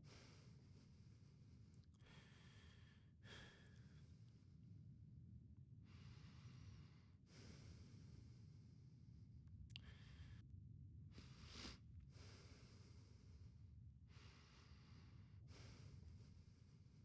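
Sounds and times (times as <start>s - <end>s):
soft breathing: 0.0s - 4.7s, 5.8s - 10.5s, 11.1s - 17.0s.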